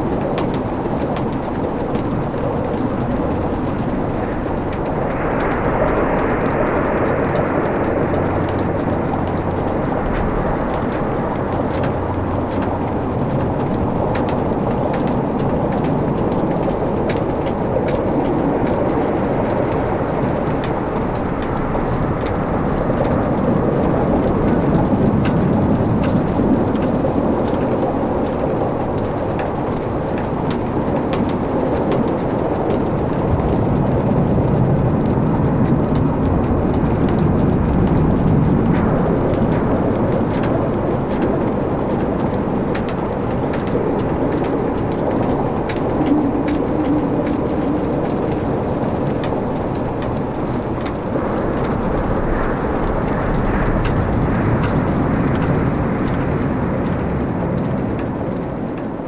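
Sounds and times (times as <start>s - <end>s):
fire flames rushing: 0.0s - 59.0s
logs crackling and popping: 0.0s - 59.0s.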